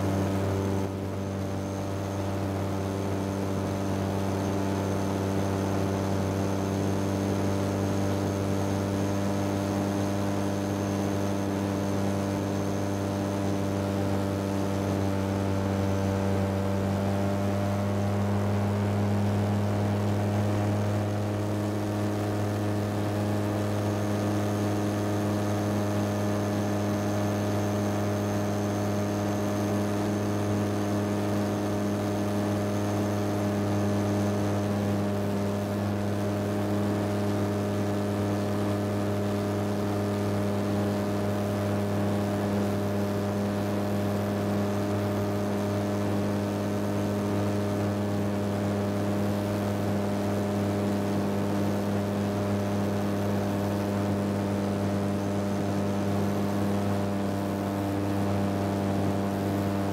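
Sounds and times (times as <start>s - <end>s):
aircraft engine droning in cockpit: 0.0s - 59.9s.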